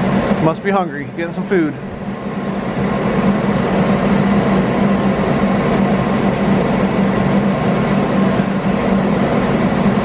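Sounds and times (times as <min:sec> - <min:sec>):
loud machine hum: 0:00.0 - 0:10.0.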